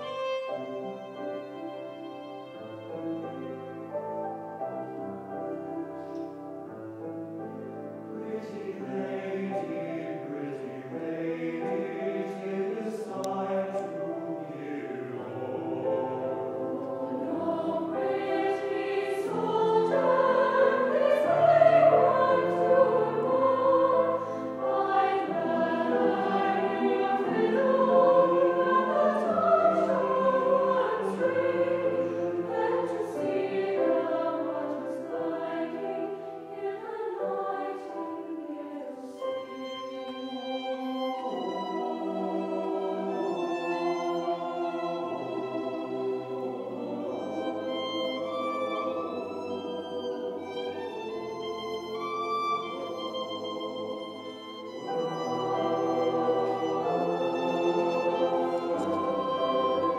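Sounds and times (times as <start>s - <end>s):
choir singing: 0.0s - 59.9s
piano: 0.0s - 59.9s
violins: 0.0s - 59.9s.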